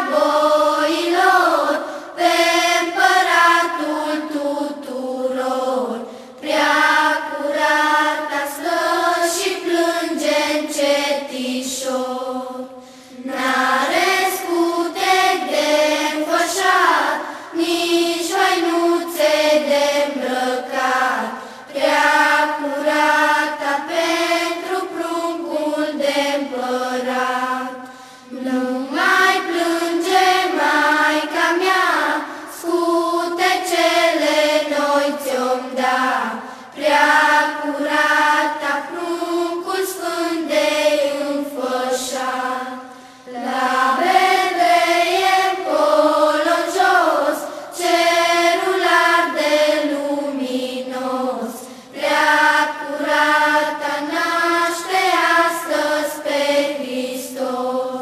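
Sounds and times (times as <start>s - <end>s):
children singing in unison: 0.0s - 58.0s.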